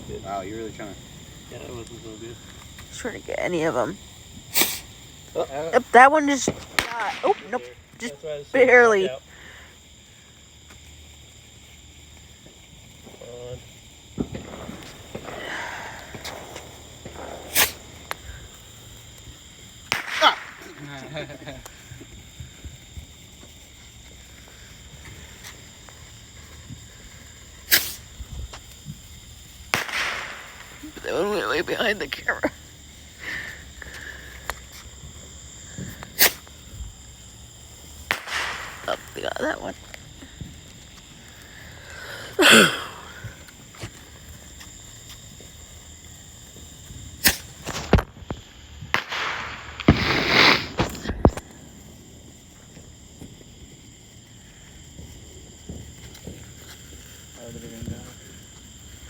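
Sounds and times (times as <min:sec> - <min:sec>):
firework burst: 0:00.0 - 0:59.0.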